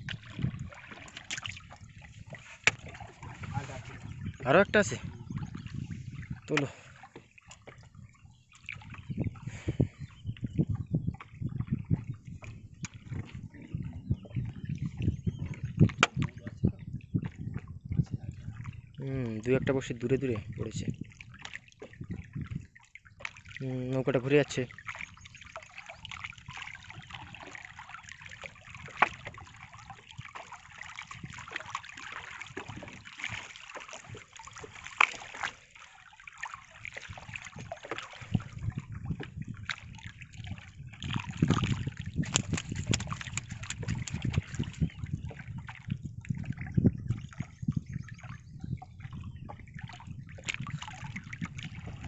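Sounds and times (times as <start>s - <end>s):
paddle dipping in water: 0.0s - 52.0s
water splashing around boat: 0.0s - 52.0s.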